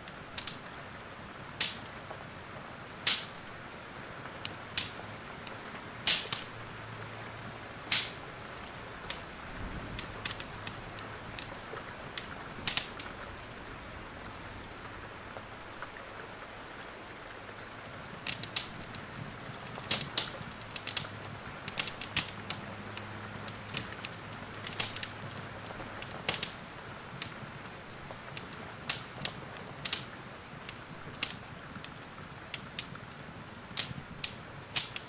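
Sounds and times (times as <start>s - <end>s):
wood fire crackling and popping: 0.0s - 2.3s, 2.9s - 13.3s, 17.9s - 35.0s
rain hiss: 0.0s - 35.0s.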